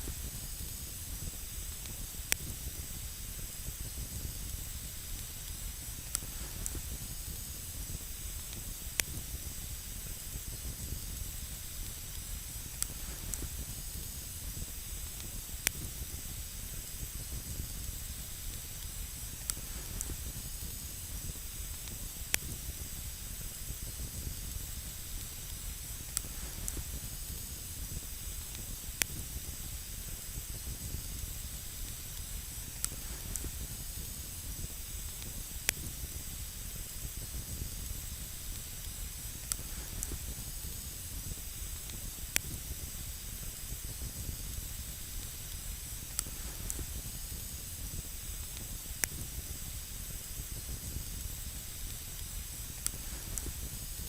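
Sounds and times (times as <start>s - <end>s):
campfire hissing: 0.0s - 54.0s
campfire popping: 0.1s - 54.0s.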